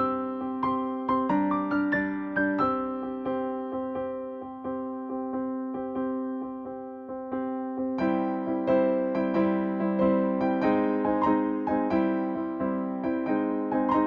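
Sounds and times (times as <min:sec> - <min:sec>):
electric piano chords: 0:00.0 - 0:14.0.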